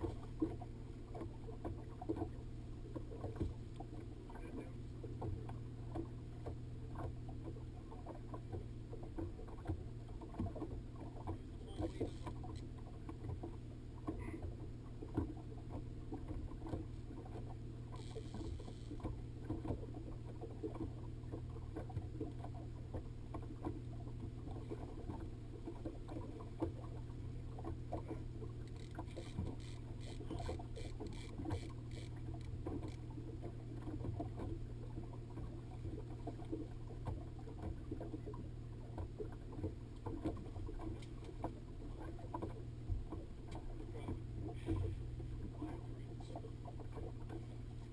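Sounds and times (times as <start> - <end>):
outboard motor running: 0.0 - 47.9
water slapping hull: 0.0 - 47.9.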